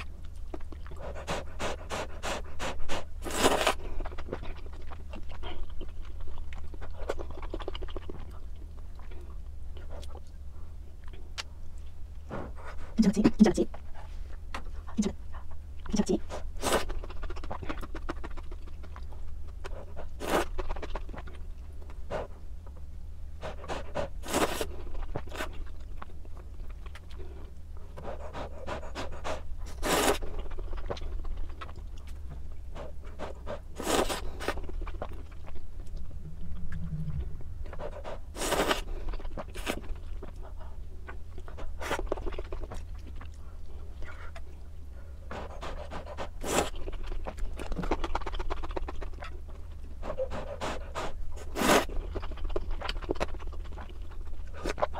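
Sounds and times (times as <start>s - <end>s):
chewing: 0.0s - 12.8s, 13.7s - 22.8s, 23.4s - 54.9s
steady low hum: 0.0s - 54.9s.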